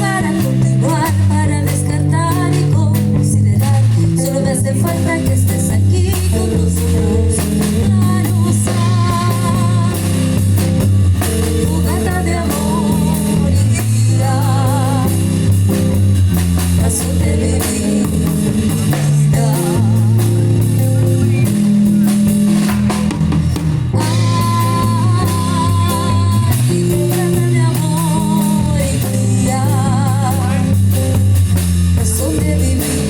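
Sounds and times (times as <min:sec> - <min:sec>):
band playing instrumental: 0:00.0 - 0:33.0
wavering lead melody: 0:00.0 - 0:33.0.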